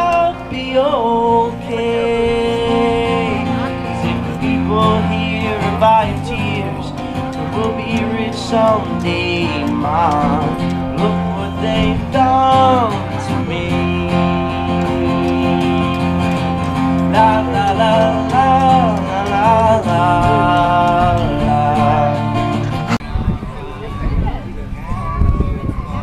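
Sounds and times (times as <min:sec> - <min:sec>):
country music with guitar: 0:00.0 - 0:26.0.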